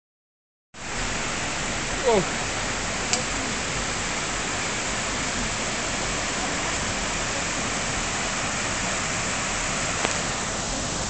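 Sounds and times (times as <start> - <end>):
river rushing over stones: 0.8 - 11.0.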